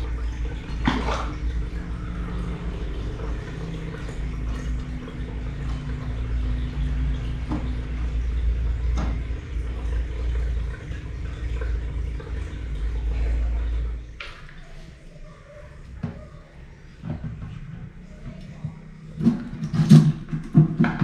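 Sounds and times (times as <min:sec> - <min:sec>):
aquarium hum: 0:00.0 - 0:21.0
running water: 0:00.0 - 0:21.0.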